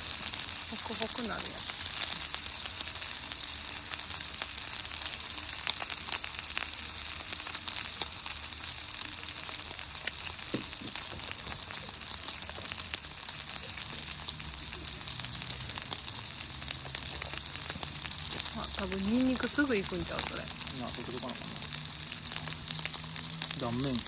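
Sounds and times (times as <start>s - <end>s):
fat crackling and spitting: 0.0s - 24.0s
meat sizzling on a steel griddle: 0.0s - 24.0s.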